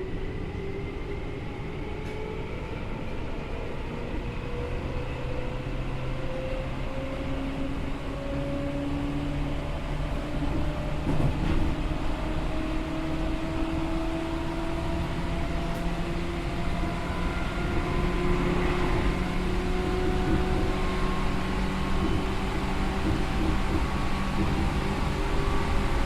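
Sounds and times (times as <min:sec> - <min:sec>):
wheels rumbling on rails: 0:00.0 - 0:26.0.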